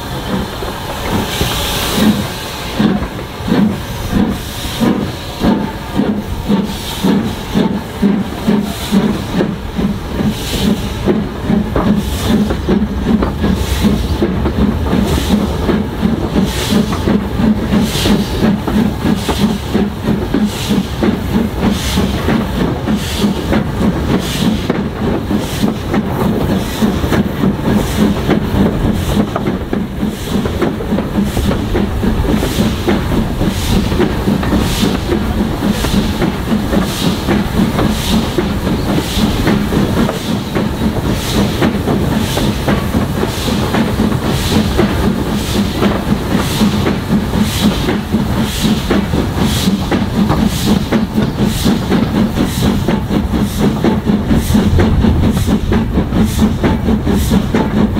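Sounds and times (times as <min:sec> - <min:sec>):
steam train running: 0:00.0 - 0:57.9.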